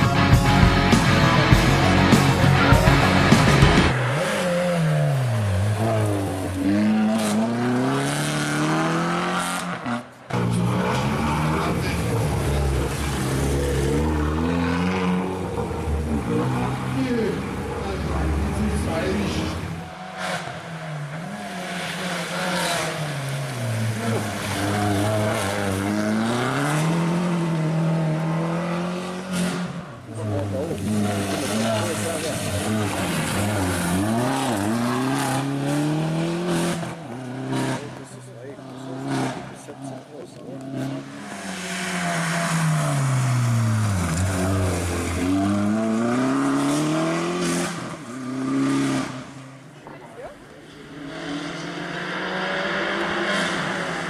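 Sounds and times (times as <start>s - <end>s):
car engine under throttle: 0.0s - 54.0s.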